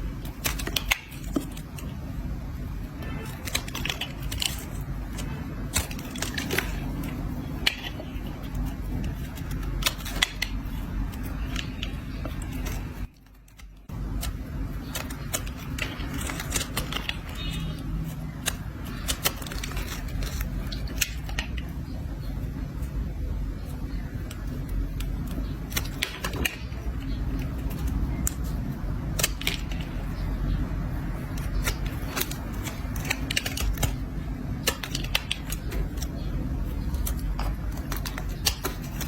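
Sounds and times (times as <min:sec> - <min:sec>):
crackly ticks of shavings: 0:00.0 - 0:39.0.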